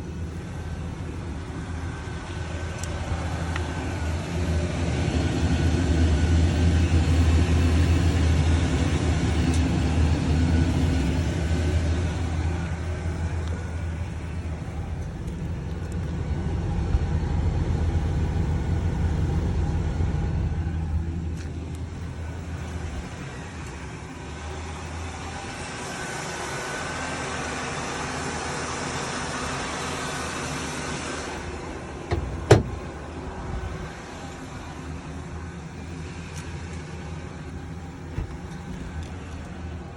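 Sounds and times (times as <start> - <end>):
car whirring hum: 0.0 - 39.9.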